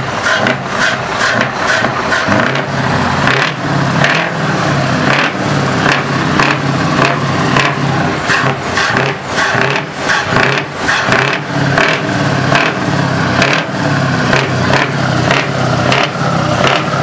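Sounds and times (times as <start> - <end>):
truck diesel engine revving: 0.0 - 17.0.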